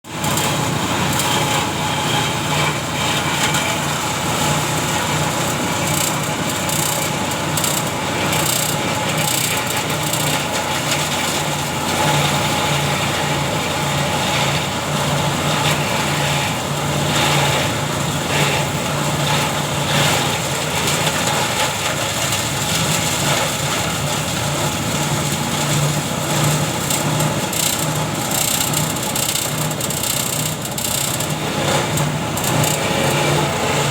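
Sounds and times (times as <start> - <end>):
machine chopping noise: 2.6 - 12.8, 17.0 - 33.9.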